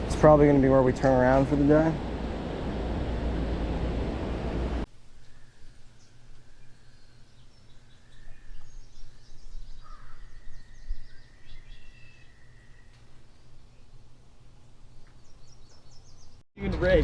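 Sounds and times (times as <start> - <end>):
low steady hum: 0.0 - 16.3
birds chirping: 0.0 - 16.4.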